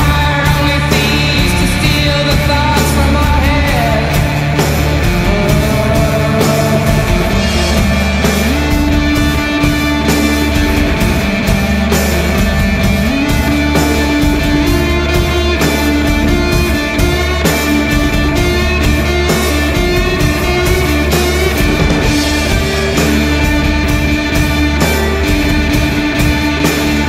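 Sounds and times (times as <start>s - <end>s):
rock music: 0.0s - 27.0s.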